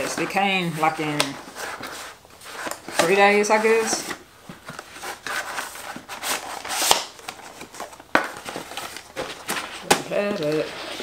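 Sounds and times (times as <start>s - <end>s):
cardboard and paper rustling: 0.0s - 11.0s.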